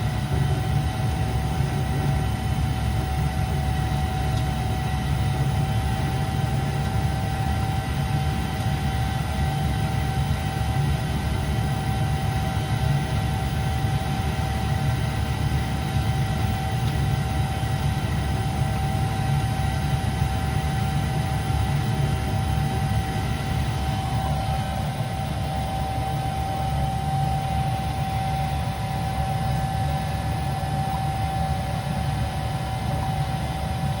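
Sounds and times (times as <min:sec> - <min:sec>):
furnace low rumble: 0:00.0 - 0:11.6, 0:12.2 - 0:34.0
furnace high whining tone: 0:00.0 - 0:34.0.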